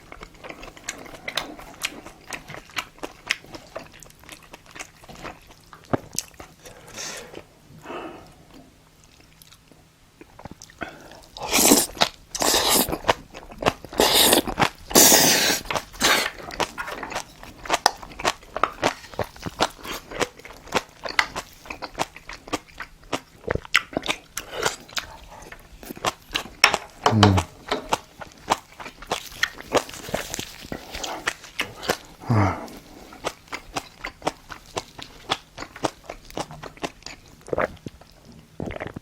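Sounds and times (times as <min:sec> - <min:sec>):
chewing with wet mouth clicks: 0:00.0 - 0:06.6, 0:08.5 - 0:39.0.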